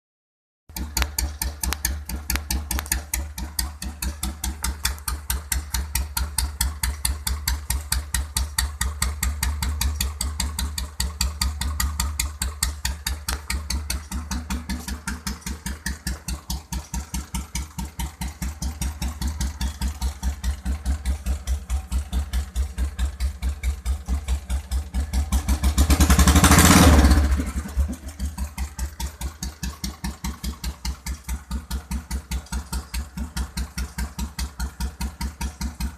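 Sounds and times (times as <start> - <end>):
motorcycle engine idling: 0.7 - 35.9.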